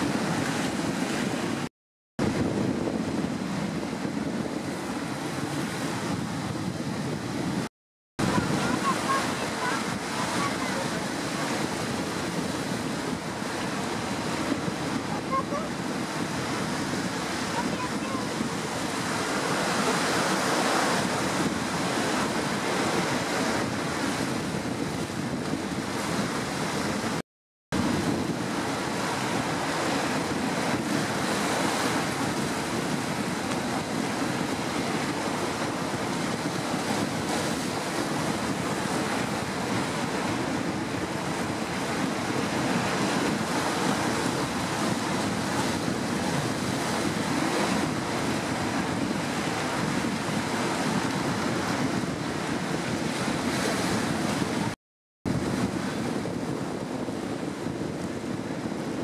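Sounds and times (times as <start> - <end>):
surf washing over rocks: 0.0 - 27.2, 27.8 - 59.0
wind buffeting microphone: 0.0 - 59.0.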